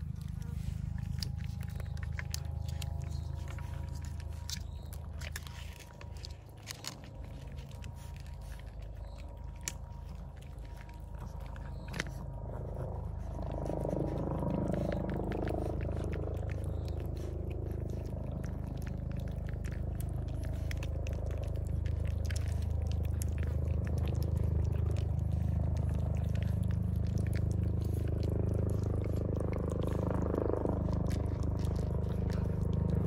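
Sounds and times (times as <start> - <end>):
cats crunching dry kibble: 0.0 - 33.0
low steady hum: 0.0 - 33.0.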